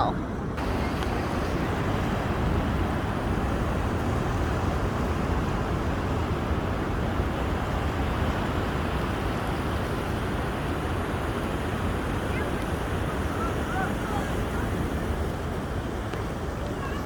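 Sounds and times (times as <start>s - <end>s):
ocean waves breaking: 0.0s - 17.0s
wind rumbling on microphone: 0.0s - 17.0s.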